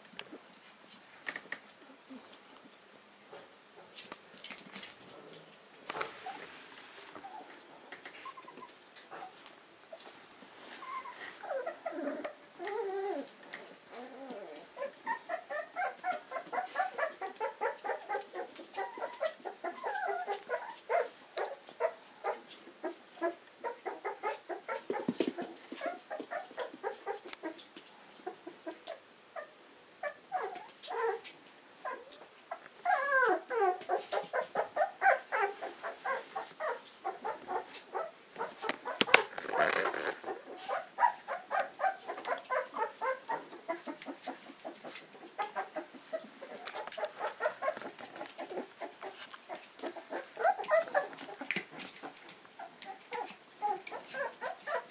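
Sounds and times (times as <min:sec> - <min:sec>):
puppy whimpering: 0:08.2 - 0:09.4, 0:10.8 - 0:25.1, 0:25.8 - 0:27.6, 0:28.2 - 0:54.9.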